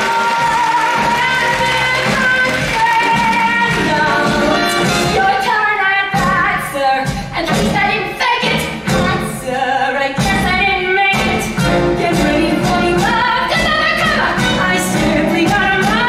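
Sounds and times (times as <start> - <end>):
instrumental accompaniment: 0.0 - 16.0
woman singing show tune: 0.0 - 16.0.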